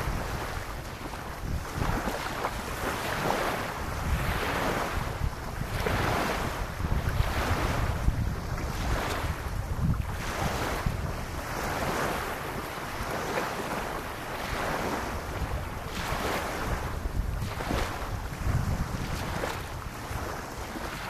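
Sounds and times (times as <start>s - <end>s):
small waves lapping on sand: 0.0s - 21.0s
wind rumbling on microphone: 0.0s - 21.0s.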